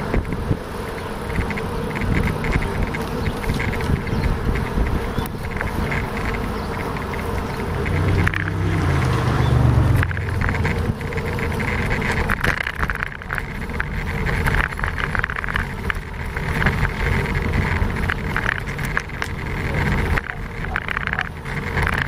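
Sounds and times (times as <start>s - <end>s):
bicycle tyres on brick paving: 0.0s - 22.0s
camera rattling: 0.0s - 22.0s
passing vehicle hum: 0.0s - 22.0s.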